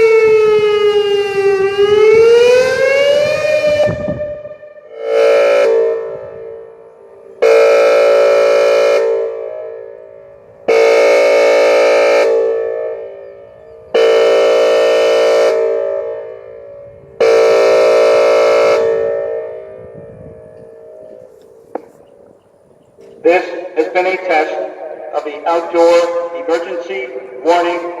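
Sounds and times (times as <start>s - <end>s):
warning siren horn blasts: 0.0s - 21.7s, 23.2s - 28.0s.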